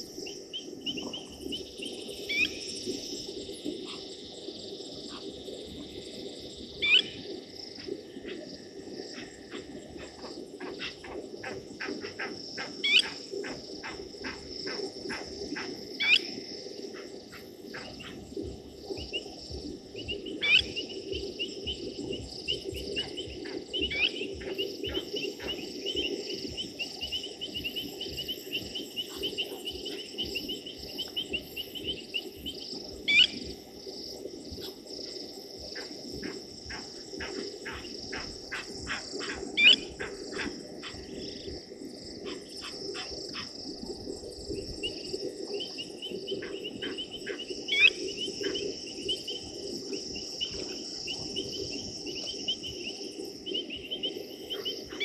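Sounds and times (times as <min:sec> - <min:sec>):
crickets and insects chorus: 0:00.0 - 0:55.0
frogs chorus: 0:00.0 - 0:55.0.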